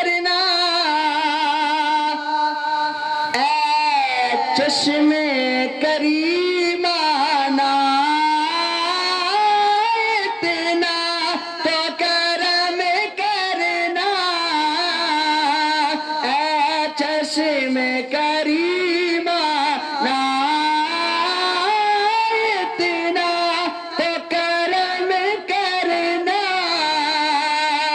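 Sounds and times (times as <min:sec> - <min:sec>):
man singing unaccompanied: 0:00.0 - 0:27.9.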